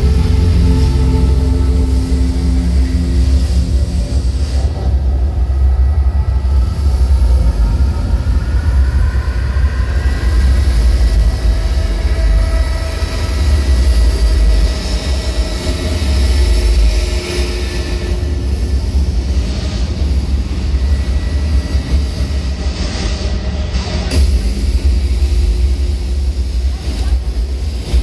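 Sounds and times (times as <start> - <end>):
sub-bass rumble: 0.0 - 28.0.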